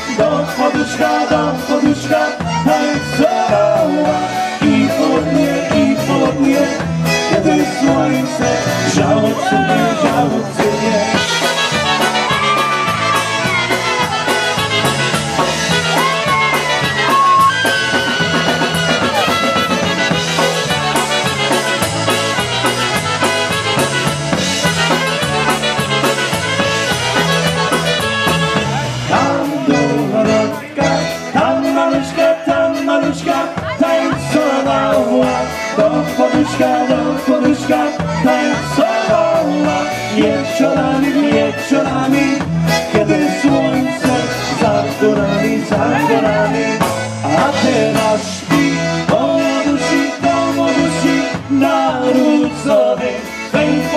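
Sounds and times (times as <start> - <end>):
polka band playing: 0.0 - 53.9.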